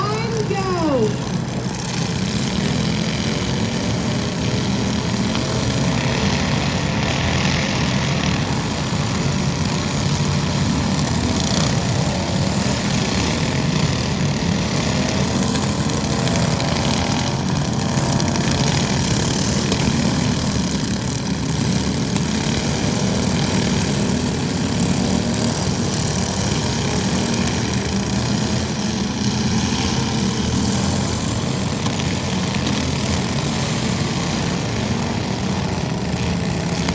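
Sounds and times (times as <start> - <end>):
small engine running: 0.0 - 36.9.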